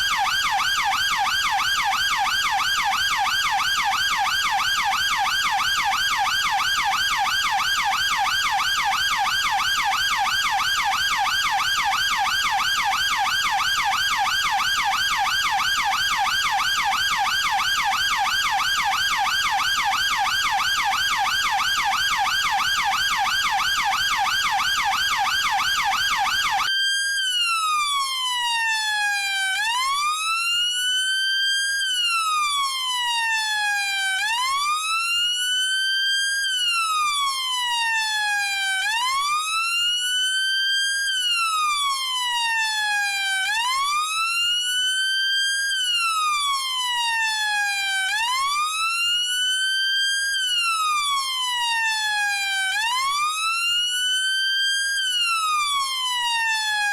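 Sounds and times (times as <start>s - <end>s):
police siren yelping: 0.0s - 26.7s, 27.5s - 30.4s, 36.7s - 39.8s, 41.4s - 56.9s
siren slow wail: 0.0s - 56.9s.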